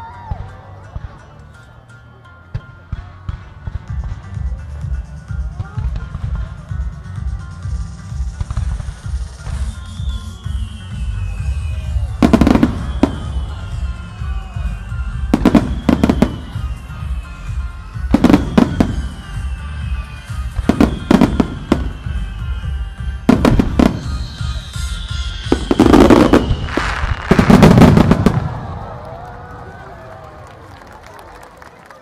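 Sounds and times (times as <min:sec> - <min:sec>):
music playing: 0:00.0 - 0:32.0.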